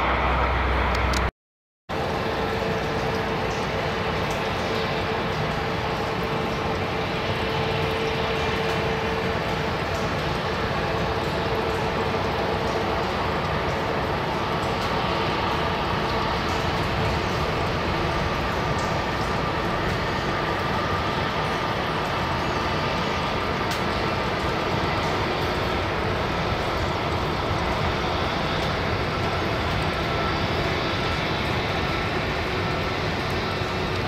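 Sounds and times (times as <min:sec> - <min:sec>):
faint engine whine: 0:00.0 - 0:01.3, 0:01.9 - 0:34.0
jet engines running: 0:00.0 - 0:01.3, 0:01.9 - 0:34.0.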